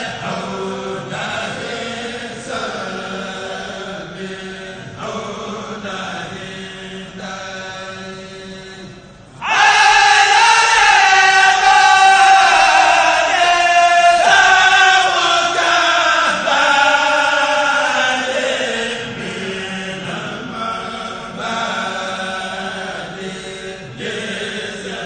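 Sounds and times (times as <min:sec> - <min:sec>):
men chanting in unison: 0:00.0 - 0:25.0.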